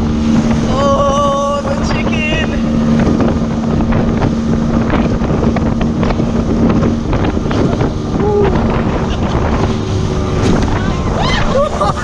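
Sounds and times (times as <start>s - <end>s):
motorboat engine: 0.0s - 12.0s
water splashing against hull: 0.0s - 12.0s
wind buffeting microphone: 0.0s - 12.0s.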